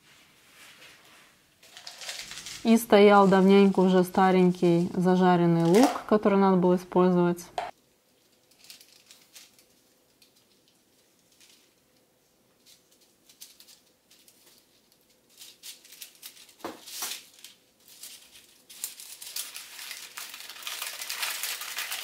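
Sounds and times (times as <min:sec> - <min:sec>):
baking paper rustling: 0:00.3 - 0:06.0, 0:08.1 - 0:22.0.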